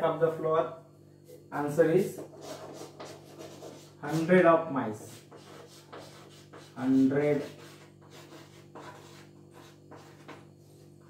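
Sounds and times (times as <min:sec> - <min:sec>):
chalk on a blackboard: 0:02.0 - 0:11.0.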